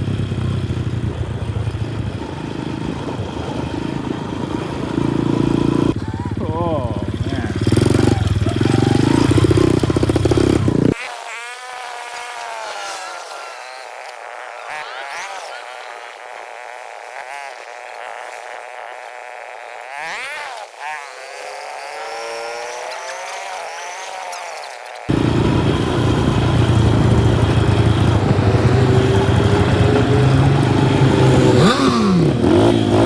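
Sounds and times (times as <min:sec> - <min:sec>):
thin engine revving: 0:00.0 - 0:24.4, 0:25.0 - 0:33.0
small engine running loud: 0:00.0 - 0:33.0.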